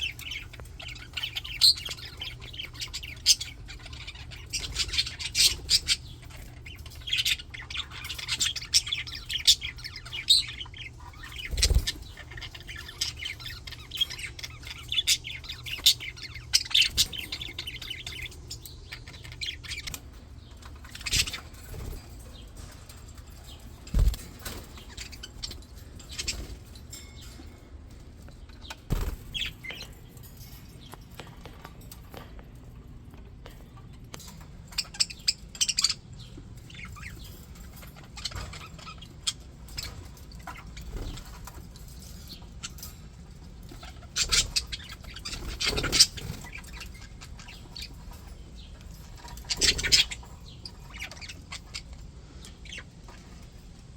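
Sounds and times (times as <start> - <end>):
budgies chattering and chirping: 0.0 - 53.9.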